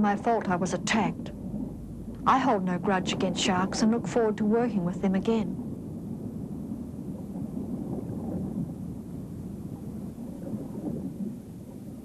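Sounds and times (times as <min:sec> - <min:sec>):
low underwater rumble: 0:00.0 - 0:12.0.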